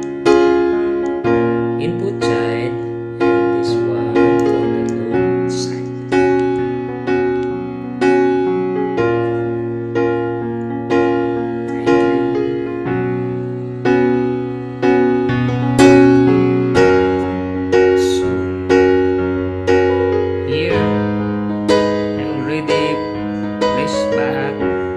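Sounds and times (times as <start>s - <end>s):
electric piano chords: 0.0s - 24.9s.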